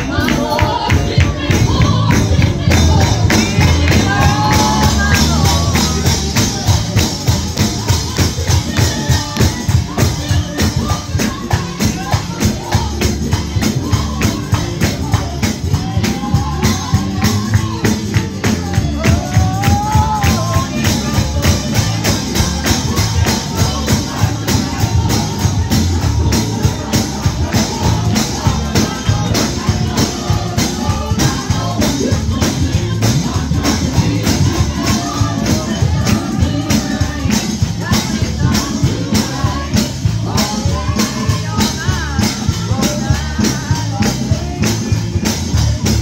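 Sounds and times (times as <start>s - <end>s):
live gospel band: 0.0s - 46.0s
person singing: 0.0s - 46.0s
tambourine beat: 0.0s - 46.0s.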